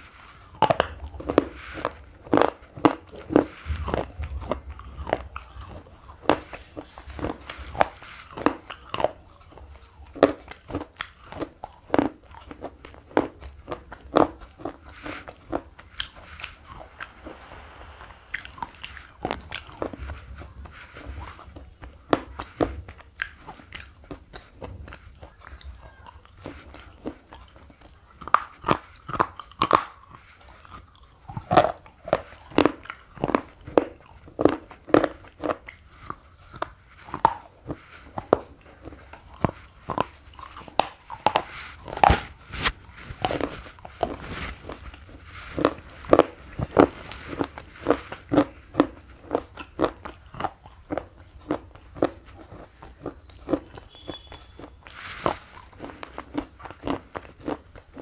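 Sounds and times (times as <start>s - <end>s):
pencil being chewed crunching: 0.2s - 17.6s, 18.3s - 58.0s.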